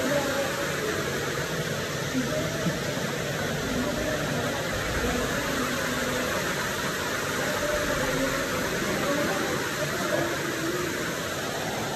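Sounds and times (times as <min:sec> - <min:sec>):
waterfall splashing into pool: 0:00.0 - 0:11.9.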